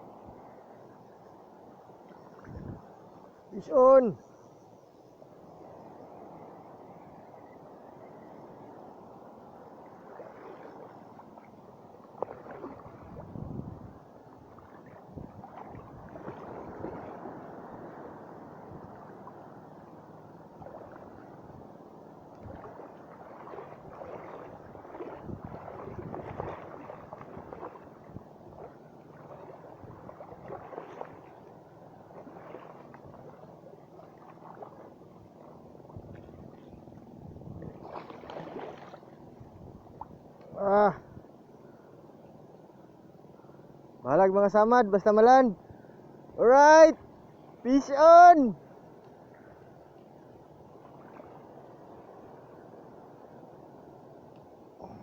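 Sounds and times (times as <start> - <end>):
water splashing and sloshing: 0.0 - 4.0, 8.4 - 42.0, 46.9 - 55.0.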